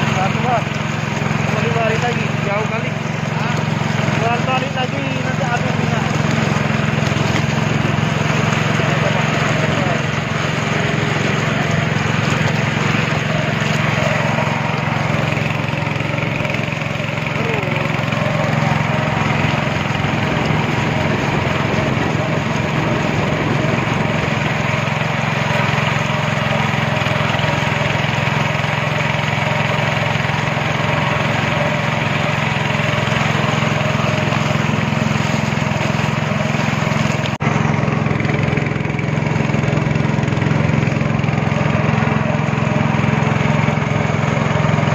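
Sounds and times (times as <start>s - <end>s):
rushing water: 0.0s - 37.5s
speedboat engine drone: 0.0s - 44.9s.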